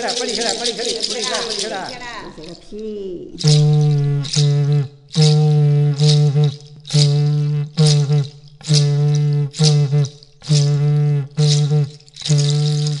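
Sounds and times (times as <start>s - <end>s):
person chanting held notes: 0.0s - 13.0s.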